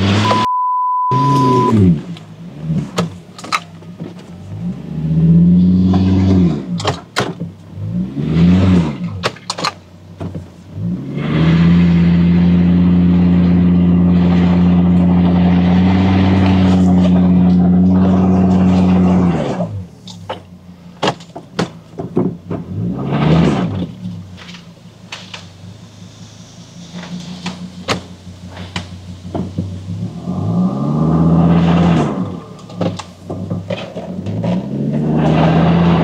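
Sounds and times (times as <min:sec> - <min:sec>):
suv engine revving: 0:00.0 - 0:00.5, 0:01.1 - 0:36.0.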